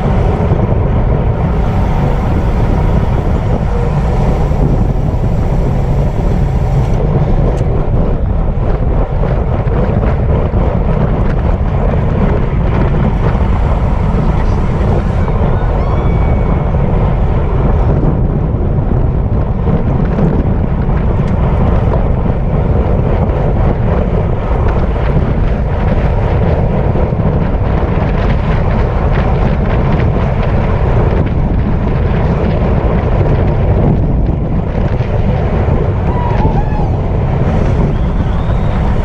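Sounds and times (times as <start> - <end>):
heavy wind buffeting microphone: 0.0 - 39.0.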